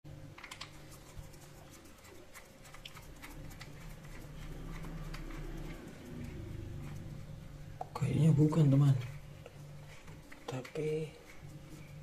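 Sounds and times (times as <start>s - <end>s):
faint steady hum: 0.1s - 12.0s.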